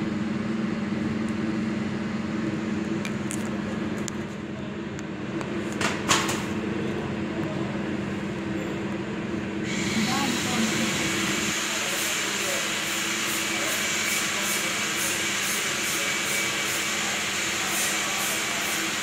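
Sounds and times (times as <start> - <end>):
machine mechanical hum: 0.0 - 19.0.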